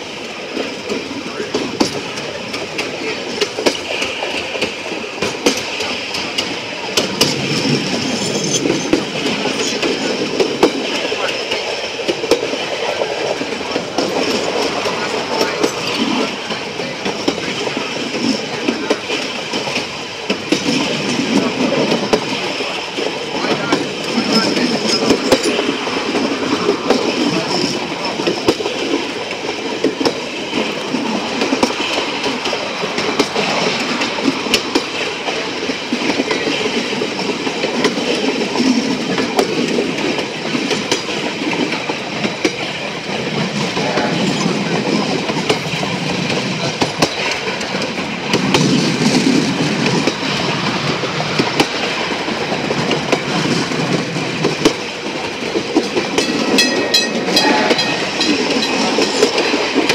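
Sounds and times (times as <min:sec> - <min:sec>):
train wheels rumbling on track: 0:00.0 - 0:59.9
wheels clacking over rail joints: 0:00.0 - 0:59.9.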